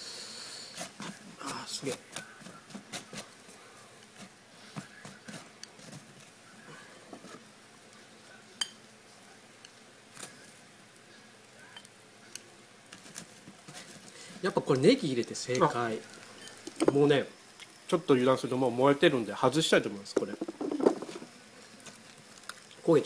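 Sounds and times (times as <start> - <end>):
low steady hiss: 0.0 - 23.0.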